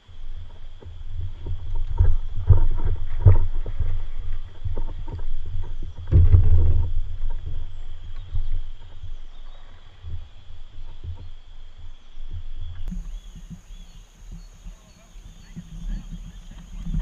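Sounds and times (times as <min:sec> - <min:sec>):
low rumbling: 0:00.0 - 0:17.0.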